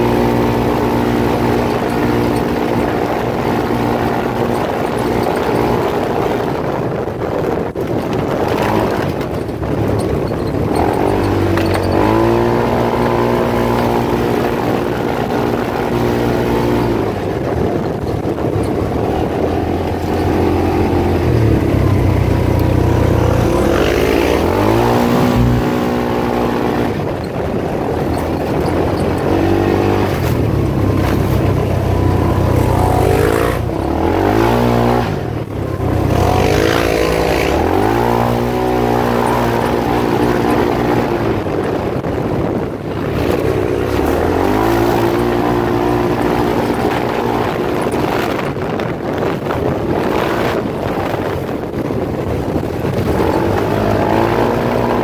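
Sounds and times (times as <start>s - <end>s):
engine revving: 0.0s - 6.6s, 8.2s - 51.5s, 52.4s - 55.0s
road and wind noise: 0.0s - 55.0s.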